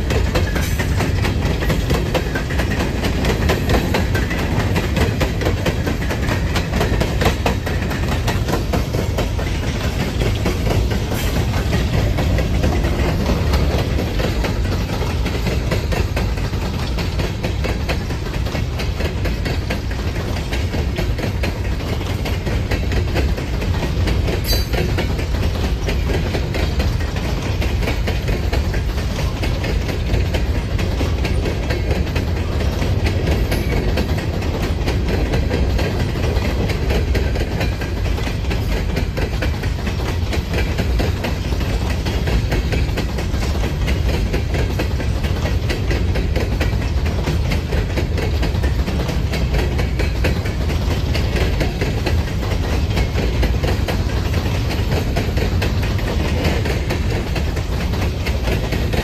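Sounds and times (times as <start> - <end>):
freight train cars rolling: 0.0 - 59.0.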